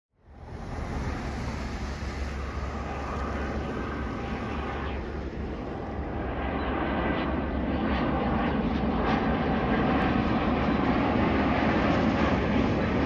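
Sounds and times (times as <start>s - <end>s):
jet engines rumbling: 0.2s - 13.0s.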